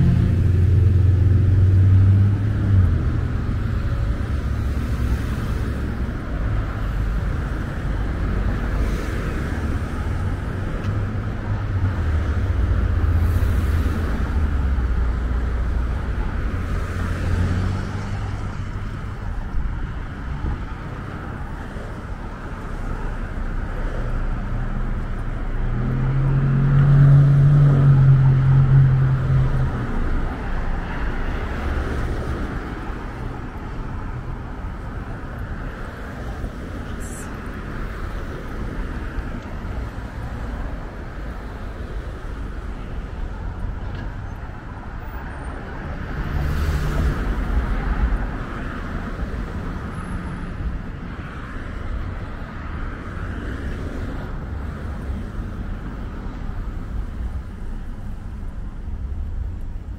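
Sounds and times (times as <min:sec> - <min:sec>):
cars driving past: 0:00.0 - 0:59.9
vehicle engine drone: 0:00.0 - 0:59.9.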